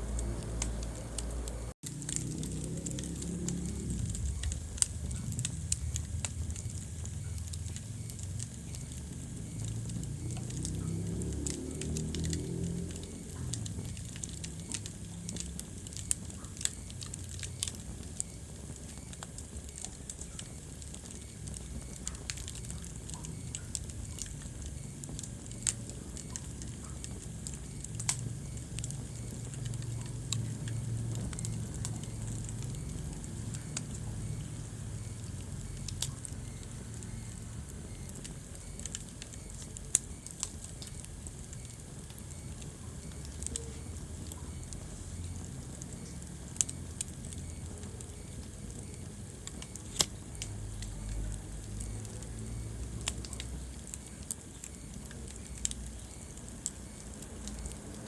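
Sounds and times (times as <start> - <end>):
low steady rumble: 0.0 - 58.0
wood fire crackling: 0.0 - 58.0
sharp pops of fire: 0.1 - 58.0.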